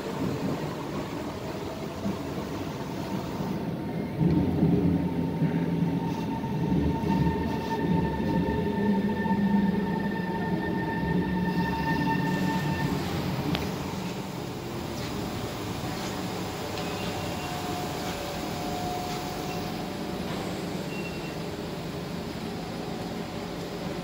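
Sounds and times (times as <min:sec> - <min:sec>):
electric train whine: 0:00.0 - 0:24.0
train wheels rumbling: 0:00.0 - 0:24.0.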